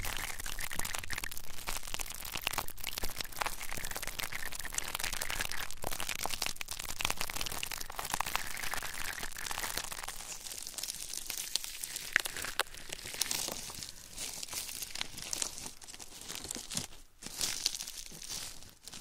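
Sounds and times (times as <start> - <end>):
close crinkling and crackling: 0.0 - 19.0.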